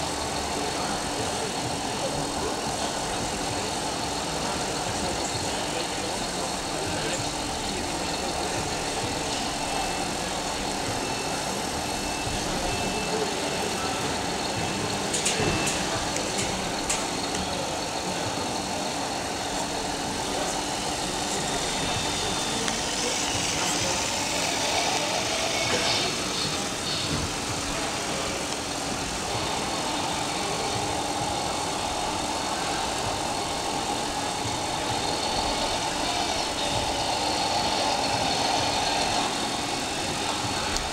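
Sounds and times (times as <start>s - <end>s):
model truck engines humming: 0.0s - 40.9s
murmur of crowd in hall: 0.0s - 40.9s.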